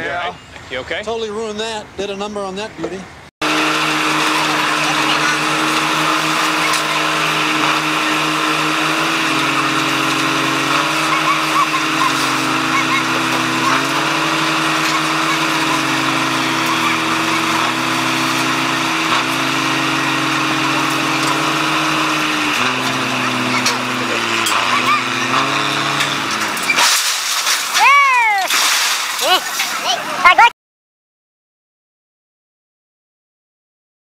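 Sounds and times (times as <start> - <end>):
diesel truck engine under load: 3.0 - 30.3.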